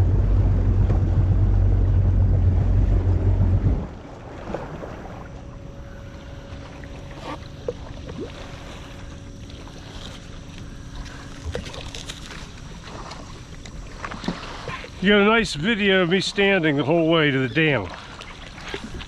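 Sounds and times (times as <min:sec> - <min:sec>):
faint steady hum: 0:00.0 - 0:19.0
water lapping and splashing: 0:00.0 - 0:19.0.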